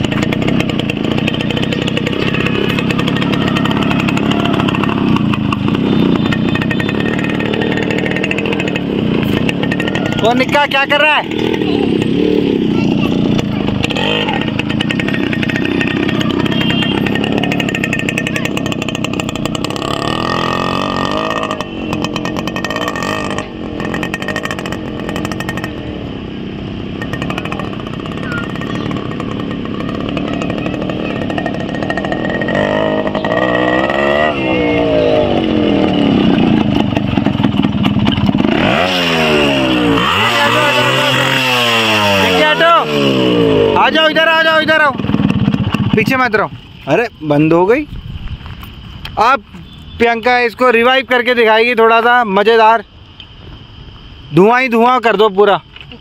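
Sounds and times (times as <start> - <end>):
two-stroke motorcycle engine: 0.0 - 52.8.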